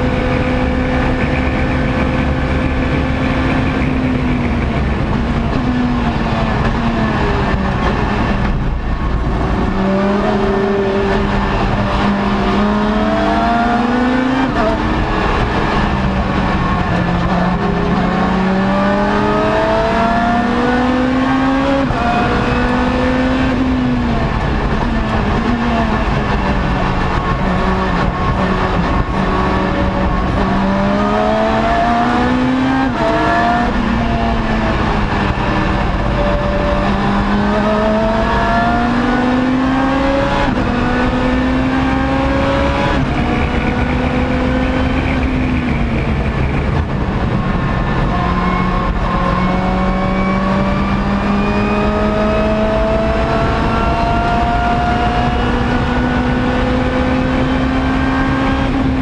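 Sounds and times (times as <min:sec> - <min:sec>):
race car engine accelerating: 0:00.0 - 0:59.0
road noise rumble: 0:00.0 - 0:59.0.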